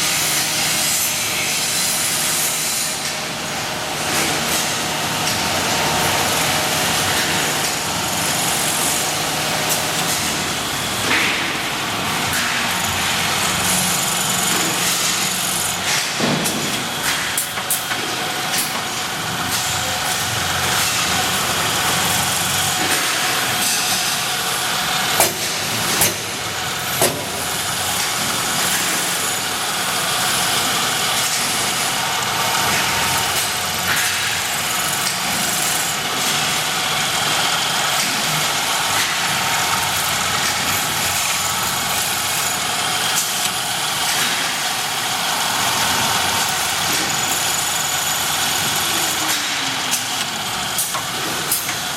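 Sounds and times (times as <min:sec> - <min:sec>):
drilling machine running: 0:00.0 - 0:51.9.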